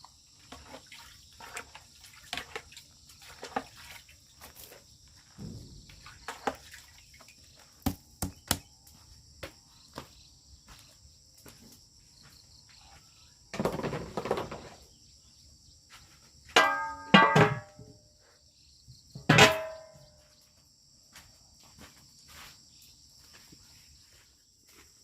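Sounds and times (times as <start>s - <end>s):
insects chorus: 0.0s - 16.6s, 17.7s - 25.0s.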